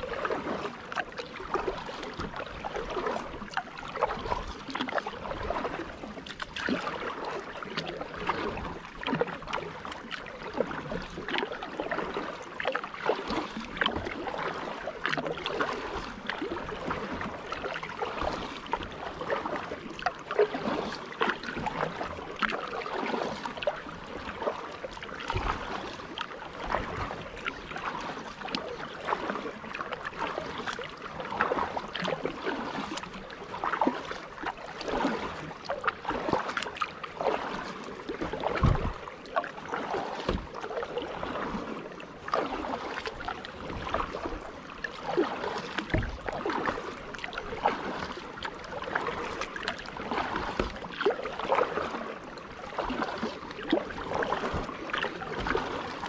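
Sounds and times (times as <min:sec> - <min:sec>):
kayak paddle strokes in water: 0:00.0 - 0:56.0.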